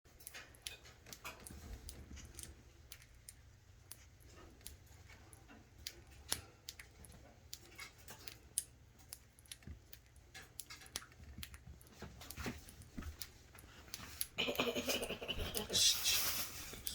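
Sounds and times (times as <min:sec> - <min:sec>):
bird beak nibbling spaghetti: 0:00.1 - 0:16.9.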